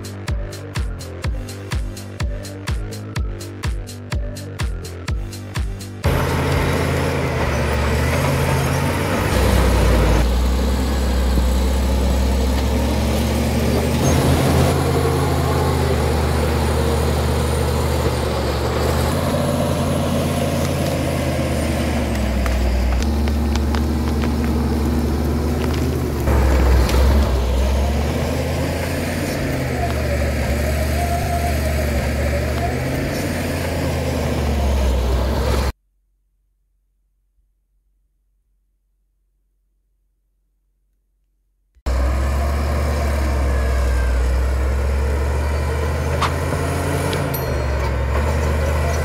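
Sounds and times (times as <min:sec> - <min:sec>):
bulldozer diesel engine: 0:00.0 - 0:35.8, 0:41.9 - 0:49.0.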